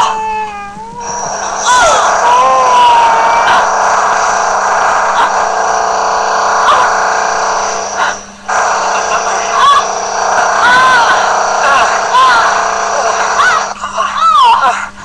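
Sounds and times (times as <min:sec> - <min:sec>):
loud buzzing drone: 0:01.0 - 0:13.8.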